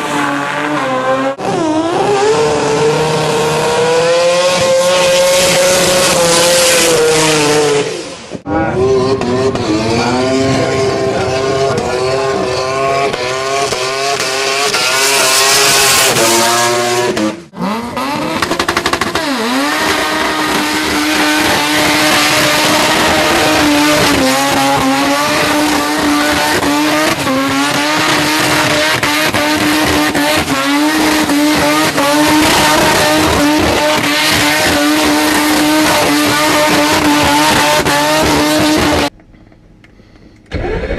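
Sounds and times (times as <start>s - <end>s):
rotary engine revving high: 0.0s - 39.2s.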